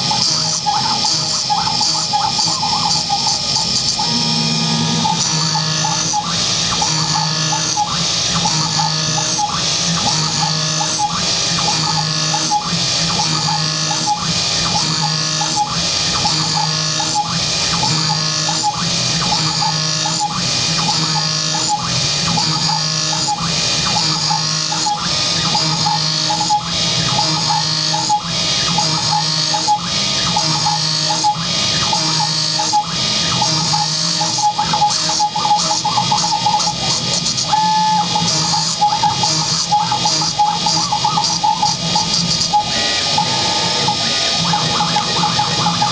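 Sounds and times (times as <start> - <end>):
milling cutter cutting metal: 0.0 - 45.9
milling machine motors whining: 0.0 - 45.9.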